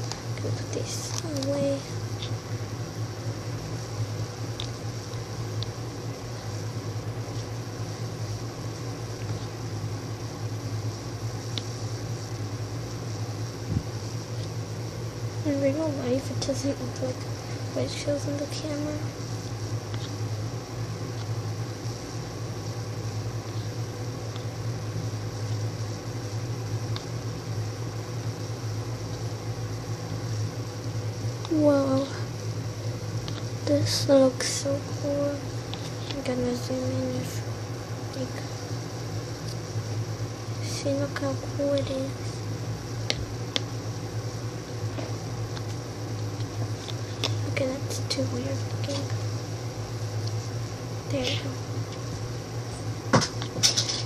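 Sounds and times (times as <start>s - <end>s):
household appliance humming: 0.0s - 54.0s.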